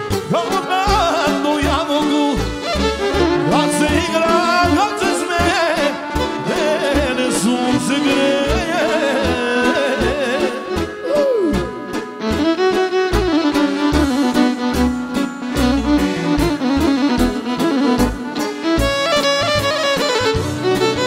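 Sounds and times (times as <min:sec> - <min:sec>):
ornamented folk song melody: 0:00.0 - 0:21.0.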